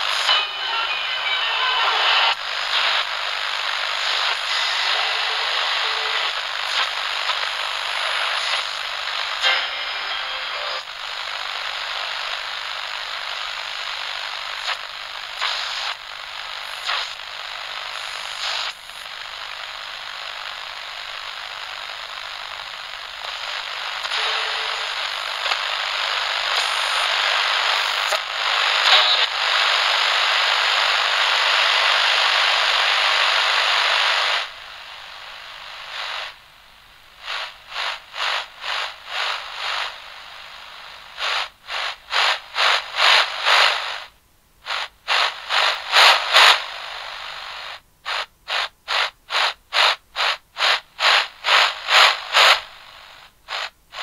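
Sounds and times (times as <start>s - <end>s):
radio static hiss with crackles: 0.0s - 54.0s.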